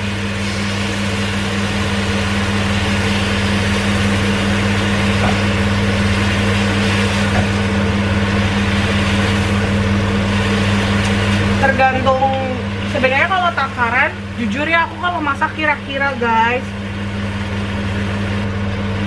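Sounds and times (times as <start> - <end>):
range hood fan humming: 0.0 - 19.0.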